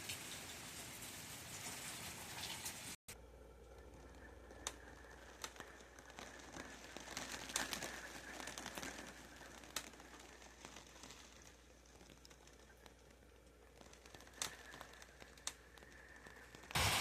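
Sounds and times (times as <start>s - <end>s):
light rain drops: 0.0s - 17.0s.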